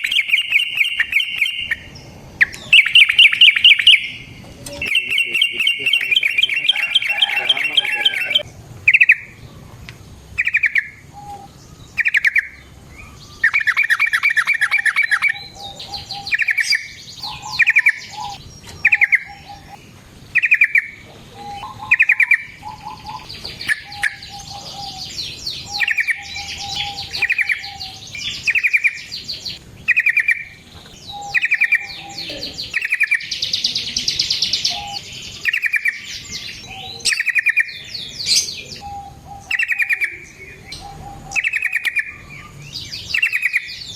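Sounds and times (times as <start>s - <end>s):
bulbul singing: 0.0s - 43.9s.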